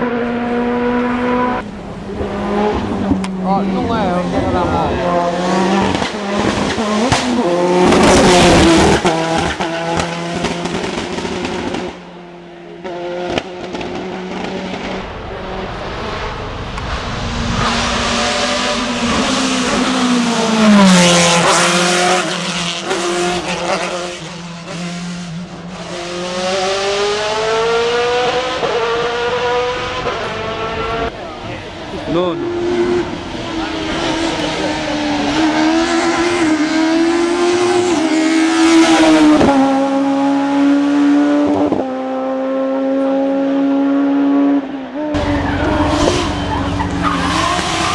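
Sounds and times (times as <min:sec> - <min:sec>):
racing car engine revving: 0:00.0 - 0:47.9.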